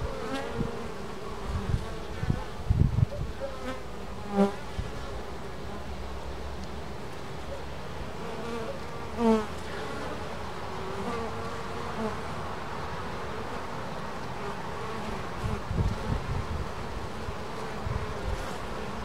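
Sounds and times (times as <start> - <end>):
single bees buzzing past: 0.0 - 2.7, 3.4 - 5.4, 8.1 - 19.0.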